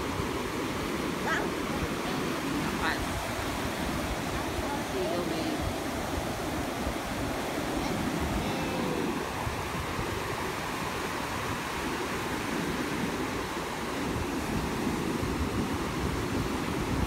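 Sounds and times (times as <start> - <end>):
ocean waves breaking: 0.0 - 17.0
wind rumbling on microphone: 0.0 - 17.0.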